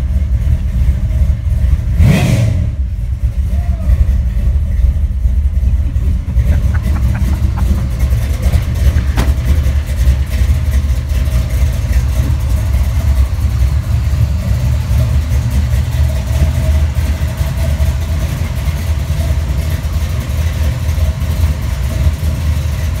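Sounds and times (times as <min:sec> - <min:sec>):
truck engine idling loudly: 0:00.0 - 0:23.0.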